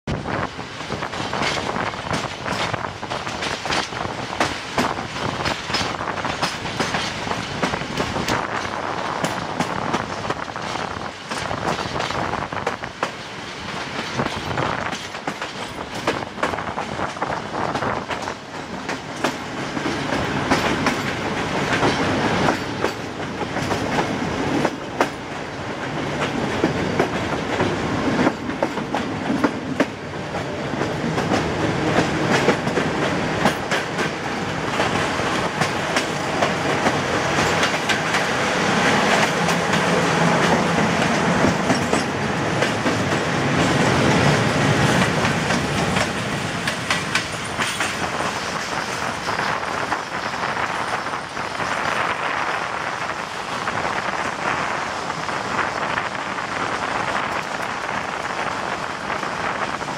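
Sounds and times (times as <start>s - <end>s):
train running noise: 0.0s - 59.9s
wheels clicking over rail joints: 0.8s - 52.5s.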